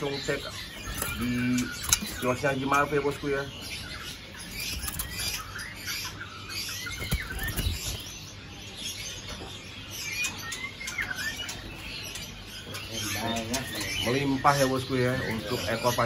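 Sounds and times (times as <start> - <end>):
caged songbirds chirping: 0.0 - 16.0.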